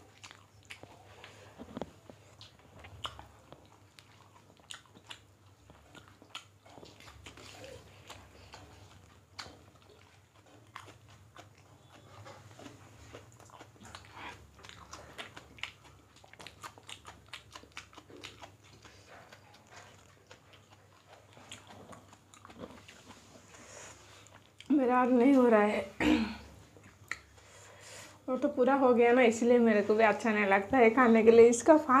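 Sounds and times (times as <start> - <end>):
people chewing food: 0.0 - 28.8.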